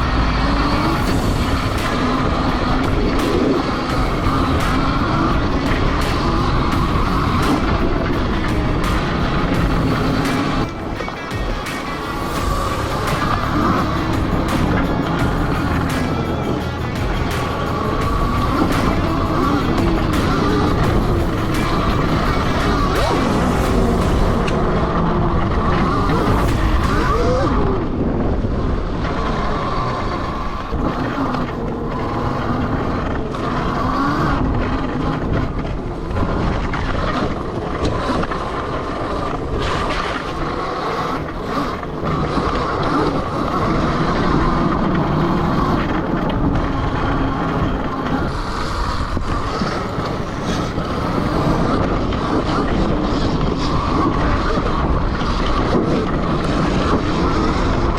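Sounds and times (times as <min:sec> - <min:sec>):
electric motor whine: 0:00.0 - 0:57.9
wind buffeting microphone: 0:00.0 - 0:57.9.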